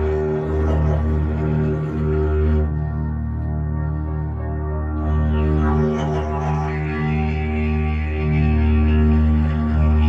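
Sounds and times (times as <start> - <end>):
low drone with overtones: 0.0 - 10.0.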